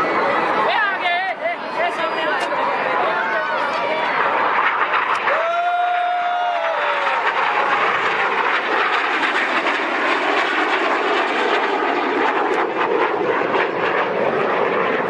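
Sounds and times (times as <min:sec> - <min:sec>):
jet engine roaring: 0:00.0 - 0:15.0.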